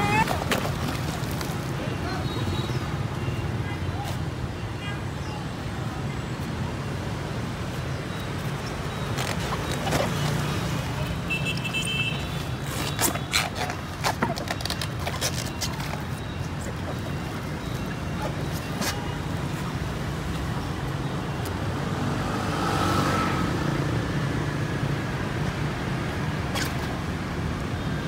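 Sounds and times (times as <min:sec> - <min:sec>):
street traffic noise: 0:00.0 - 0:28.0.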